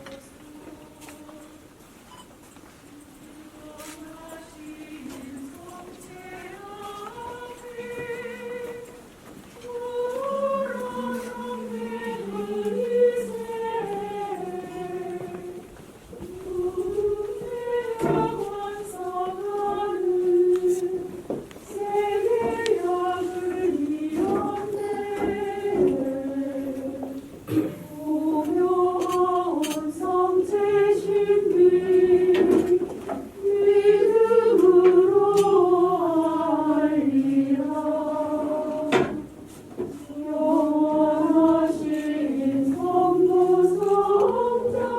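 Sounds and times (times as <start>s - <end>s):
choir singing a slow hymn: 0.0s - 2.2s, 2.9s - 44.9s.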